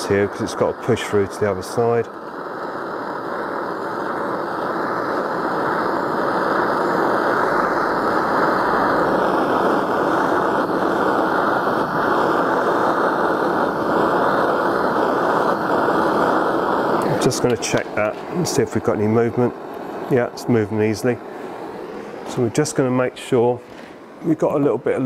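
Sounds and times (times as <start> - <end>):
blowtorch flame rushing: 0.0 - 25.0.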